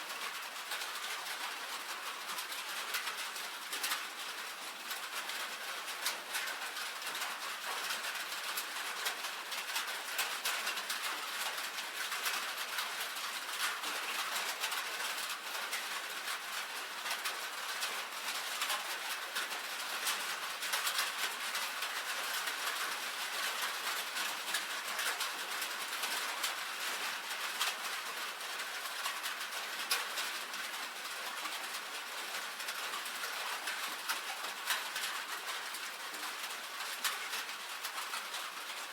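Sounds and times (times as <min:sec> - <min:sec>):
rain on a tin roof: 0:00.0 - 0:38.9.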